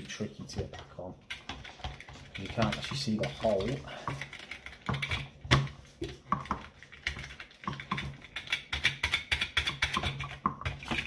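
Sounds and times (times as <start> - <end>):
plastic parts clicking and knocking: 0.4 - 11.0.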